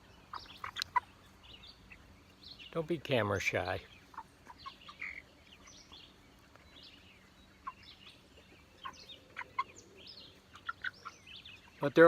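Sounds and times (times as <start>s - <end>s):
chickens peeping and chirping: 0.0s - 12.0s.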